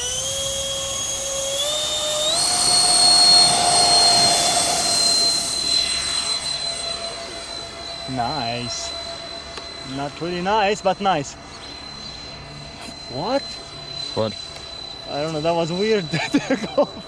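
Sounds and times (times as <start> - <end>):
electric ducted fans whining: 0.0 - 17.0.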